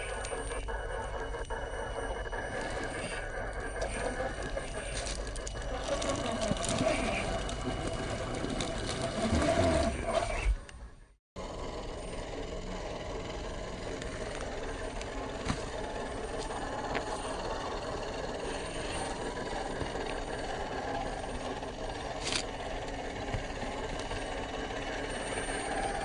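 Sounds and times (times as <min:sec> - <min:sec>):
toy truck drivetrain rattling: 0:00.0 - 0:10.7, 0:11.4 - 0:26.0.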